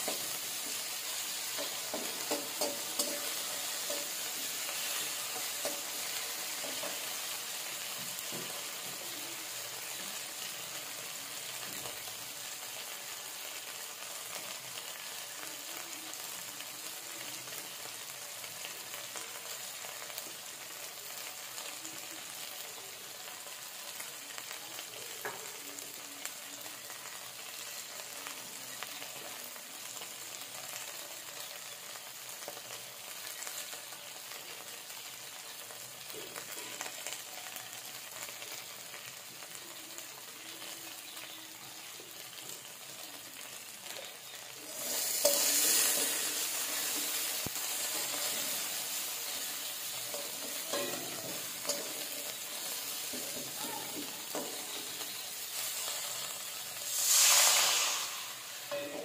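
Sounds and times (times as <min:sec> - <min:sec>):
masala sizzling in hot oil: 0:00.0 - 0:59.0.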